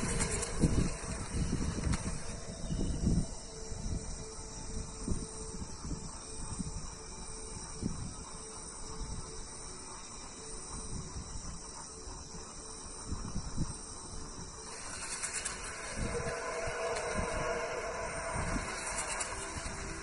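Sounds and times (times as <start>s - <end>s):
low wind rumbles on microphone: 0.0s - 9.5s, 10.7s - 20.0s
crickets chirping: 0.0s - 20.0s
loud hissing noise: 0.0s - 20.0s.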